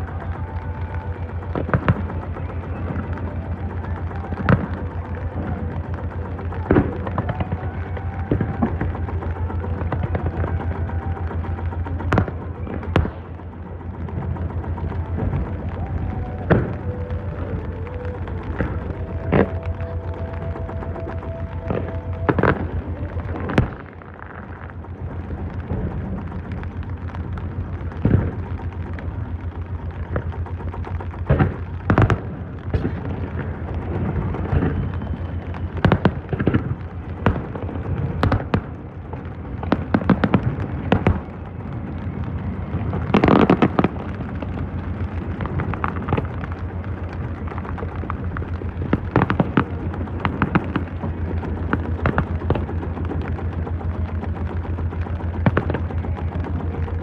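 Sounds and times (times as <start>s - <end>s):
boat engine idling: 0.0s - 57.0s
fireworks bangs: 0.0s - 57.0s
fireworks crackling: 0.0s - 57.0s.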